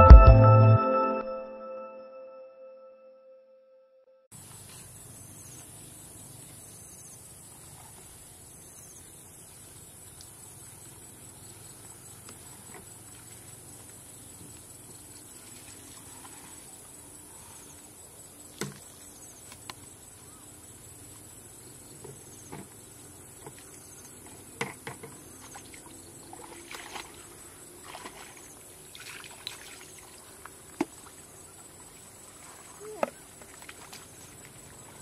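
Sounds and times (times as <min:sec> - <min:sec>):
insects droning: 0:04.4 - 0:35.0.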